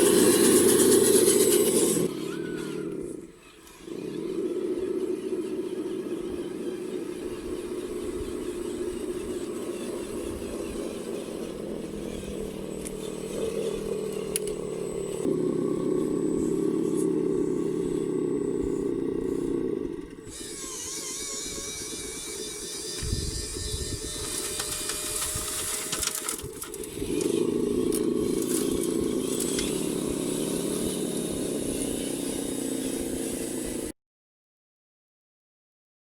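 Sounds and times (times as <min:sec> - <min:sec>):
model motor and gearbox drone: 0:00.0 - 0:33.9.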